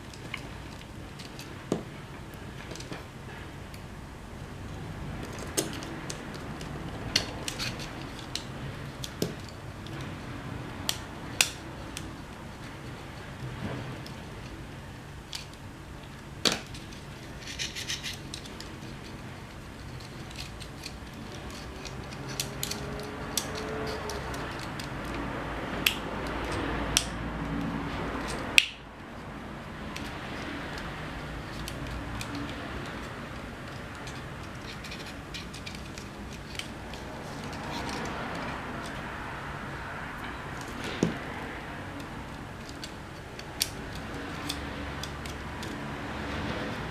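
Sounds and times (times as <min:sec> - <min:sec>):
small tools clicking and scraping: 0:00.0 - 0:03.9, 0:04.6 - 0:46.9.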